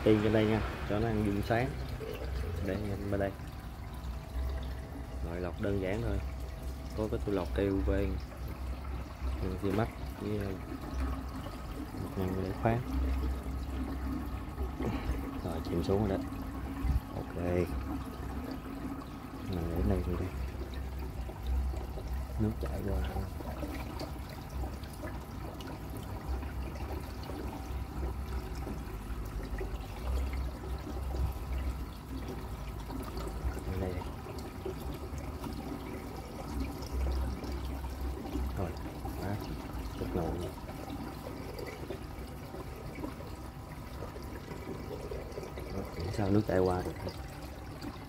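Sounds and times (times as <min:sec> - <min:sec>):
water trickling into aquarium: 0:00.0 - 0:48.0.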